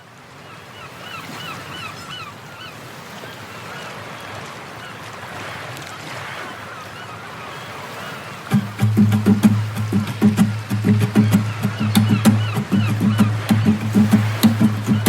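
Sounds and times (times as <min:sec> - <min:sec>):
surf washing: 0:00.0 - 0:15.0
birds calling: 0:00.8 - 0:05.1, 0:06.0 - 0:15.0.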